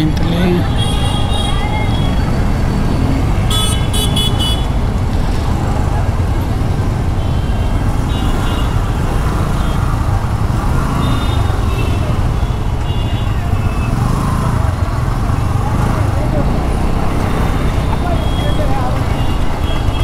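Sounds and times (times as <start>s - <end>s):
scooter engine rumble: 0.0s - 20.0s.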